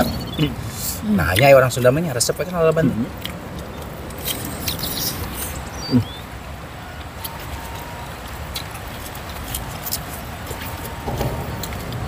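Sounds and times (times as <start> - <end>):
wet eating smacks and chewing: 1.2 - 12.0.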